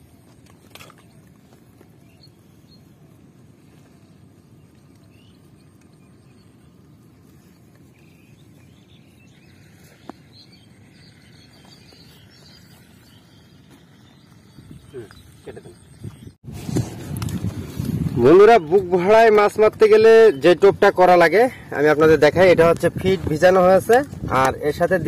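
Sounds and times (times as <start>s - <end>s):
low rumble of background noise: 0.0s - 25.0s.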